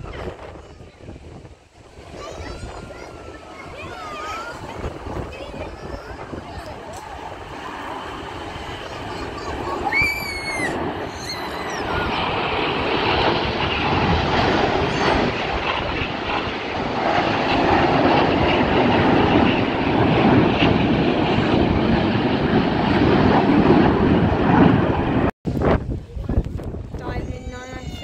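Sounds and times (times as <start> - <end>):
jet roar: 0.0 - 28.0.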